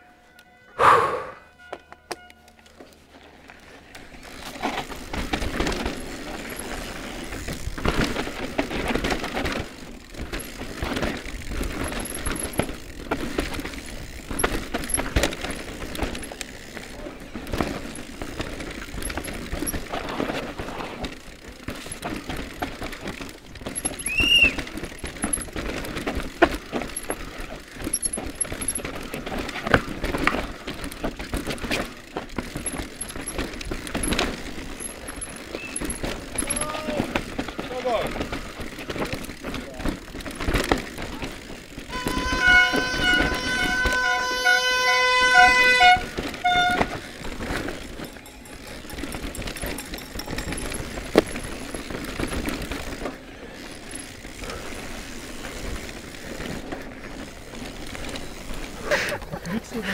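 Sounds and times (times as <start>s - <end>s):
bike chain rattling: 2.2s - 59.9s
tyres clattering over rocky trail: 2.6s - 59.9s.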